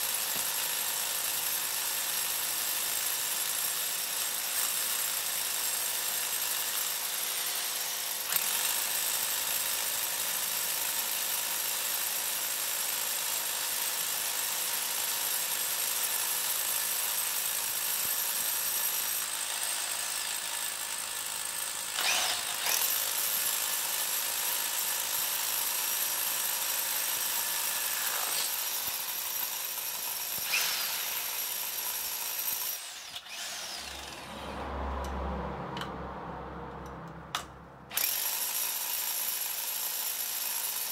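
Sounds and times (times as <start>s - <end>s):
rotary hammer drilling into stone: 0.0s - 34.2s, 37.9s - 40.9s.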